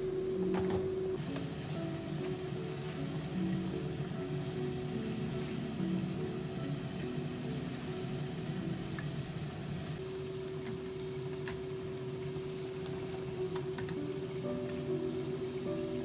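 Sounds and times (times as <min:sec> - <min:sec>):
soft background music: 0:00.0 - 0:16.0
water boiling in a pot: 0:01.1 - 0:16.0.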